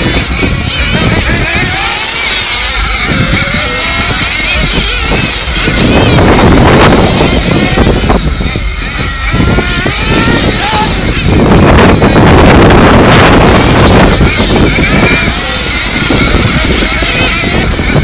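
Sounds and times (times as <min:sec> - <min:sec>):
loud rumbling noise: 0:00.0 - 0:18.0
toy race car motors whining: 0:00.0 - 0:18.0.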